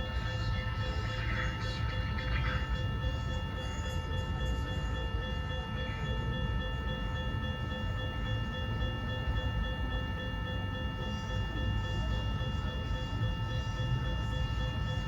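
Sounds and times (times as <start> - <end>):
crossing bell ringing: 0.0 - 15.0
freight train rumbling: 0.0 - 15.0.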